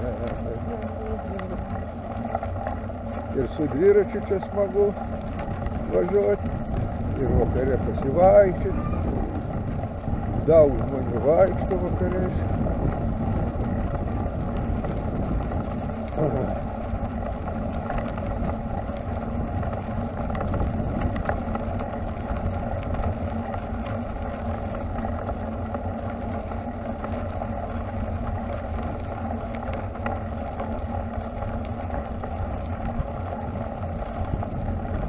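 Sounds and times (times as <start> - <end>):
tyres rolling on pavement: 0.0 - 35.0
wind on microphone: 2.8 - 35.0.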